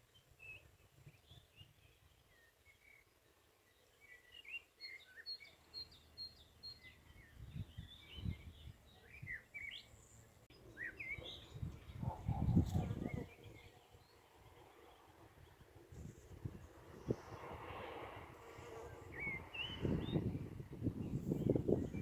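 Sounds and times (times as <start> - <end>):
small birds chirping: 0.0 - 15.6, 18.9 - 22.0.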